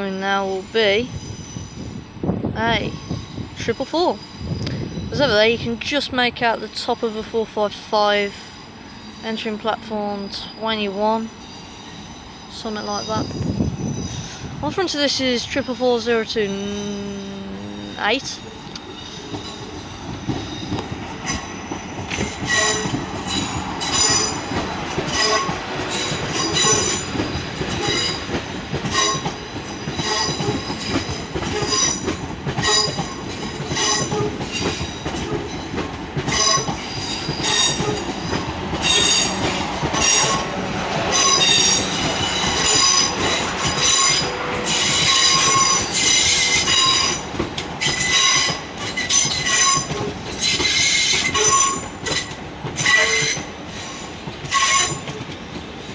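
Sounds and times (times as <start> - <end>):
train rumble: 0.0 - 55.9
train wheels squealing: 0.8 - 2.1, 2.7 - 5.6, 8.1 - 14.6, 16.4 - 55.9.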